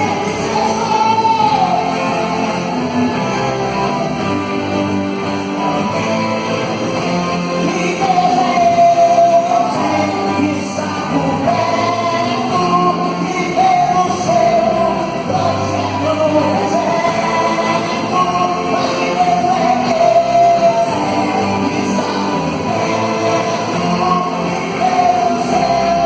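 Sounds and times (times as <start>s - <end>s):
person singing: 0.0s - 4.9s, 5.9s - 26.0s
band playing gospel music: 0.0s - 26.0s
guitar: 0.0s - 26.0s.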